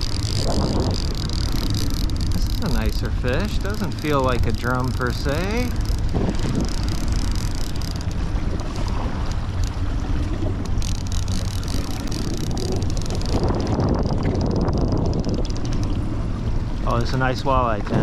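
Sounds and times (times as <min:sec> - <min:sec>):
boat engine rumble: 0:00.0 - 0:18.0
wind buffeting microphone: 0:00.0 - 0:18.0.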